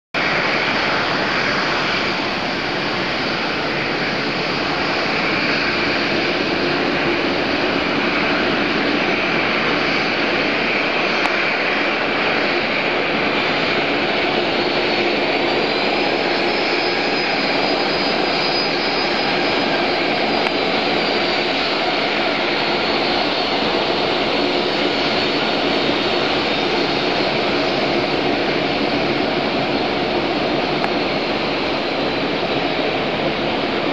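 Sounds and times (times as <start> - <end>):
jet engines rumbling and hissing: 0.2 - 33.9.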